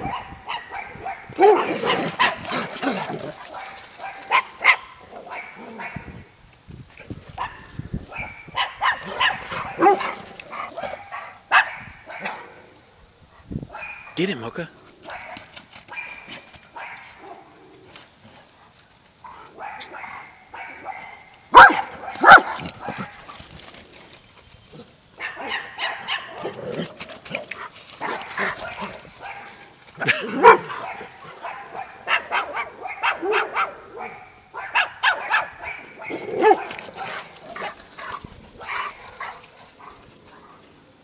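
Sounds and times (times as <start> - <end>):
dogs barking: 0.0 - 6.2, 7.4 - 12.7, 13.7 - 14.2, 15.0 - 17.6, 18.6 - 23.4, 25.2 - 40.6.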